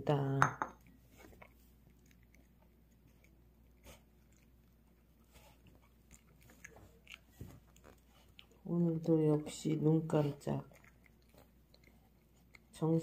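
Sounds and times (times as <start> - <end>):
dog chewing and crunching: 0.8 - 13.0.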